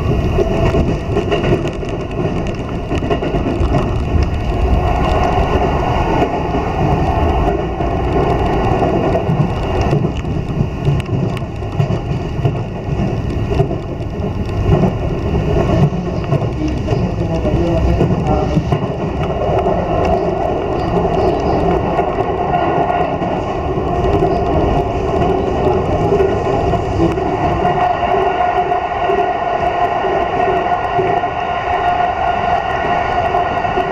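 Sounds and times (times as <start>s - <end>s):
train wheels rumbling on track: 0.0s - 33.9s.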